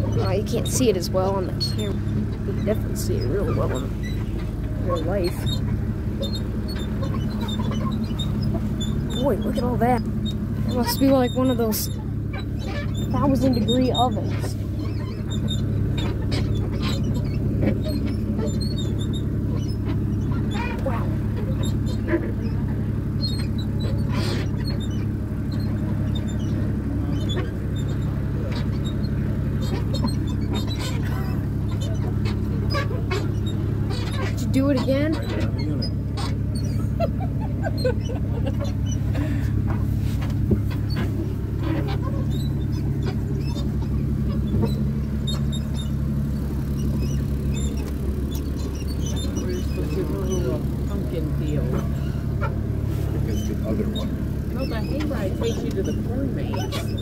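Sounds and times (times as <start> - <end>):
light rattles and clicks: 0.0 - 57.0
vehicle engine droning: 0.0 - 57.0.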